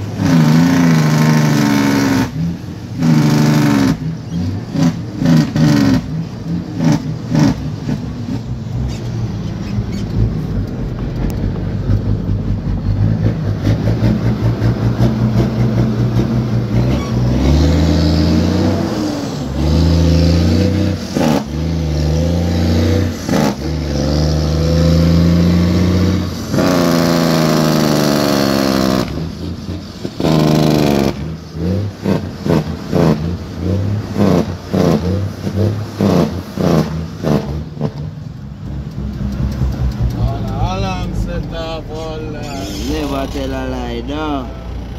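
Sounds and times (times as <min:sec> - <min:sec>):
diesel truck engine revving: 0:00.0 - 0:44.9.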